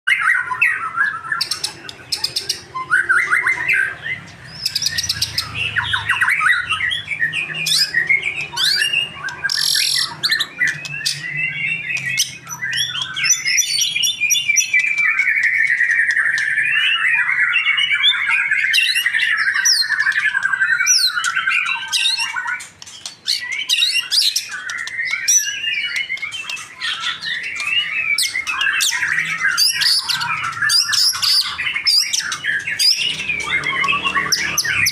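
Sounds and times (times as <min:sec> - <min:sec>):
bird singing whistled phrases: 0:00.1 - 0:34.9.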